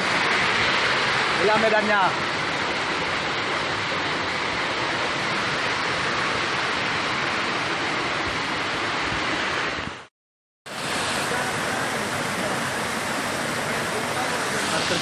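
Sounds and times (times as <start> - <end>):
waterfall roaring: 0.0 - 10.1, 10.7 - 15.0.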